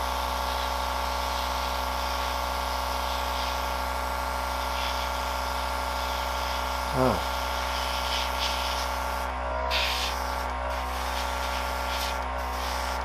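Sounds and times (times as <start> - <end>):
compressor motor humming: 0.0 - 13.0
air hissing from airbrush: 0.4 - 6.9, 7.5 - 13.0.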